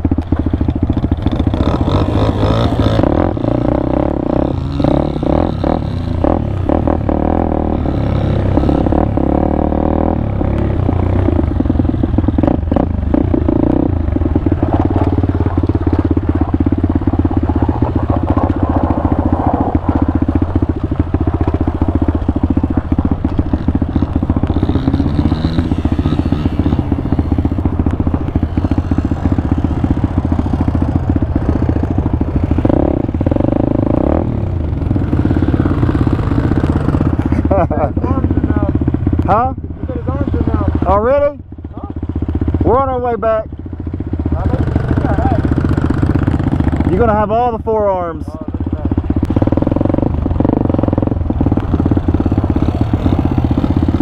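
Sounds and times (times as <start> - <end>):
motorbike engine running under load: 0.0 - 47.6, 48.4 - 54.0.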